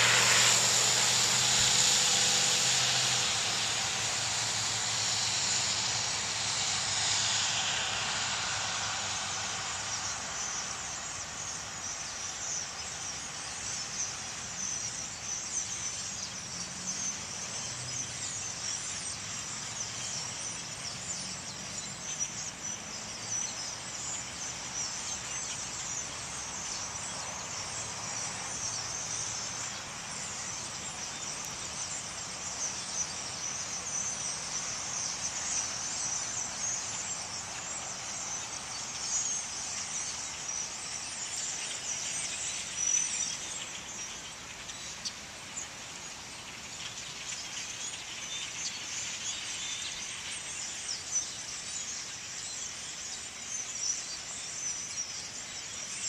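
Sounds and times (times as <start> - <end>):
flock of blackbirds chattering: 0.0 - 56.0.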